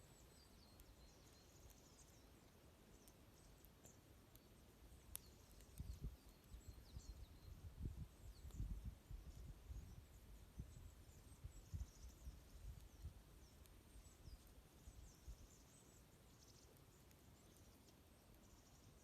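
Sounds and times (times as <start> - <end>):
songbirds twittering: 0.0 - 19.0.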